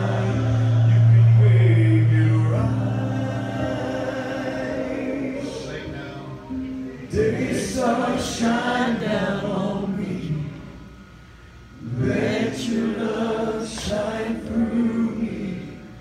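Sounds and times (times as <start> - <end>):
voices singing gospel in harmony: 0.0 - 6.3, 7.1 - 11.0, 11.7 - 16.0.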